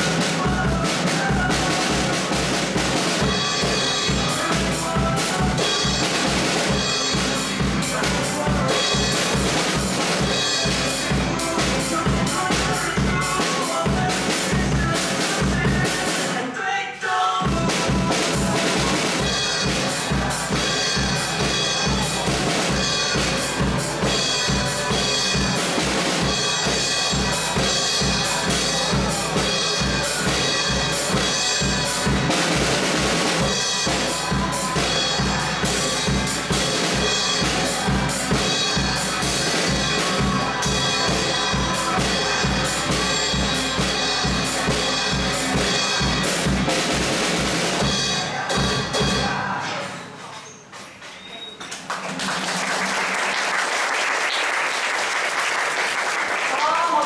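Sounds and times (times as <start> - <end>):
drum kit beat: 0.0 - 16.6, 17.4 - 49.9, 51.8 - 57.0
pop song instruments: 0.0 - 50.4.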